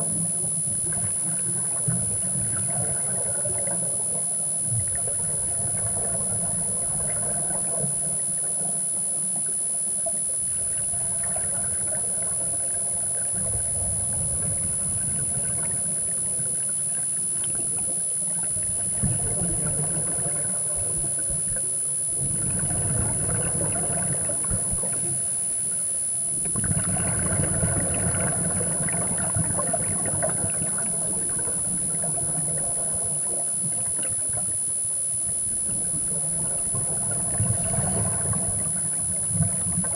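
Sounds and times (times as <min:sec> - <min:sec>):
high whine: 0:00.0 - 0:39.9
underwater regulator bubbles: 0:00.0 - 0:39.9.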